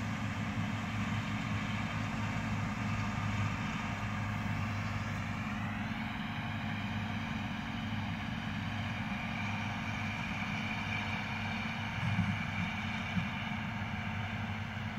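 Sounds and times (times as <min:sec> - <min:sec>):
forage harvester engine drone: 0:00.0 - 0:14.9.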